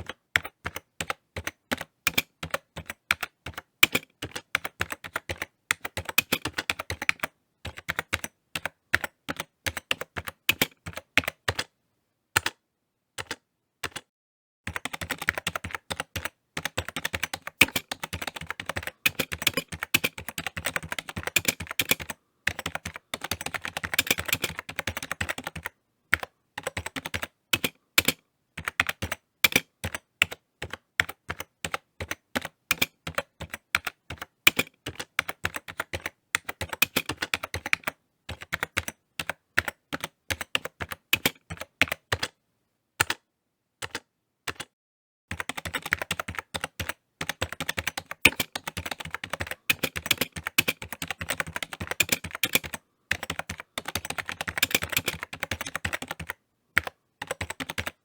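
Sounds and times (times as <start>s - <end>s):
computer keyboard typing: 0.0s - 11.7s, 12.4s - 12.6s, 13.2s - 14.1s, 14.7s - 42.4s, 43.0s - 43.2s, 43.8s - 44.7s, 45.3s - 58.0s.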